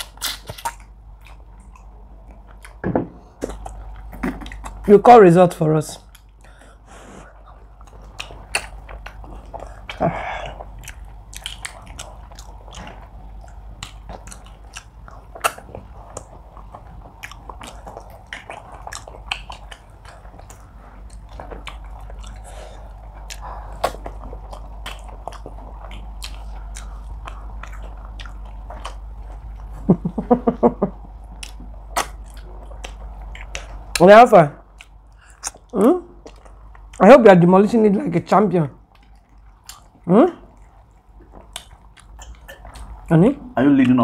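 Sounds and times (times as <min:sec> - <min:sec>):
chewing with lip smacks: 0:00.0 - 0:05.0, 0:06.0 - 0:37.2, 0:38.8 - 0:43.1.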